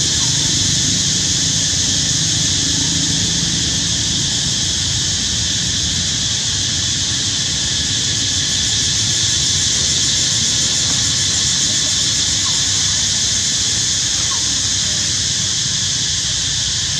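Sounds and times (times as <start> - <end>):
high-pitched hiss: 0.0 - 4.6, 5.3 - 16.9.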